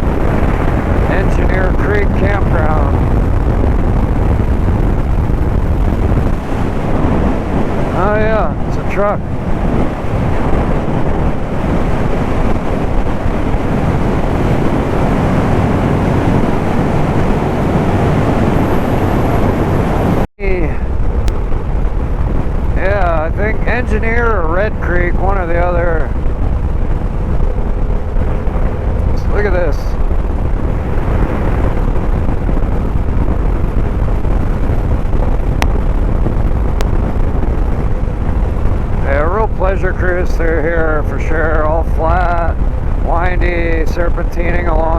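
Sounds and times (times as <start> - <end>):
motorcycle engine drone: 0.0 - 44.9
wind rush over microphone: 0.0 - 44.9.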